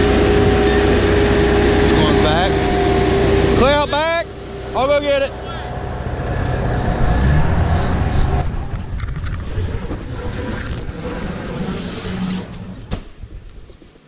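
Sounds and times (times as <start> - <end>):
truck engine rumbling: 0.0 - 13.4.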